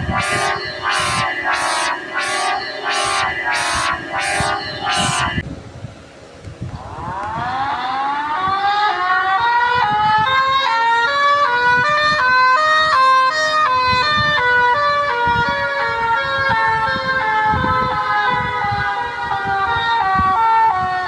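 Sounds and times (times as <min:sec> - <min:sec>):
two-tone siren: 0:00.0 - 0:05.4, 0:06.8 - 0:21.0.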